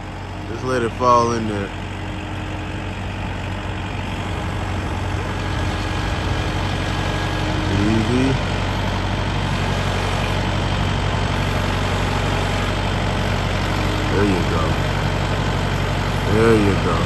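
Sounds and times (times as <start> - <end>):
diesel tractor engine running: 0.0 - 17.0
rising whine: 1.7 - 17.0.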